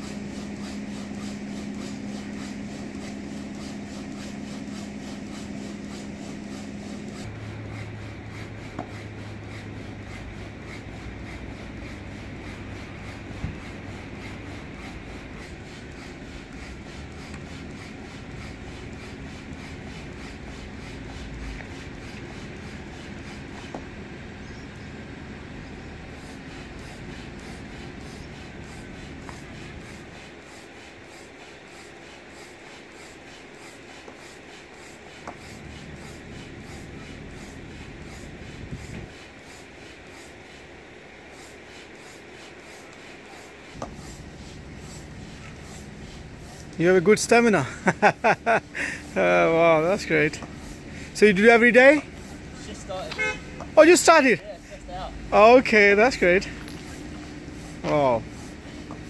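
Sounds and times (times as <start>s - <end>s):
hand pump rasping air: 0.0s - 24.0s, 26.0s - 59.0s.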